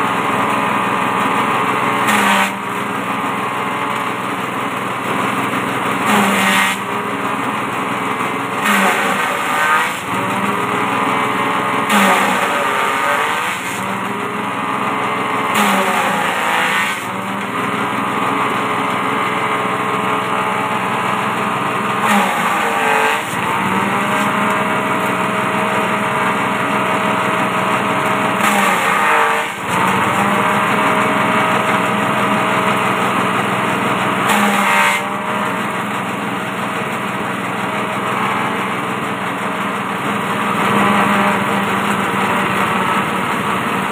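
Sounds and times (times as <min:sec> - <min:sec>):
small petrol engine running: 0:00.0 - 0:43.9
forage chopper chopping stalks: 0:00.1 - 0:43.9.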